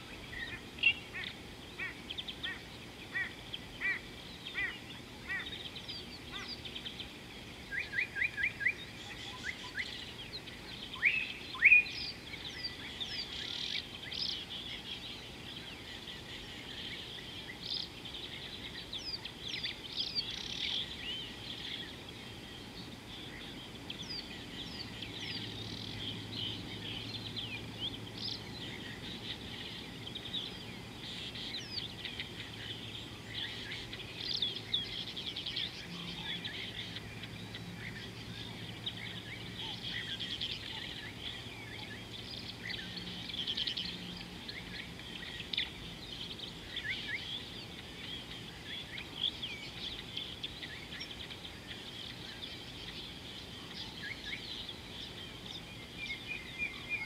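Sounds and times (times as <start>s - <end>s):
low steady hum: 0.0s - 57.0s
small birds chirping: 0.0s - 57.0s.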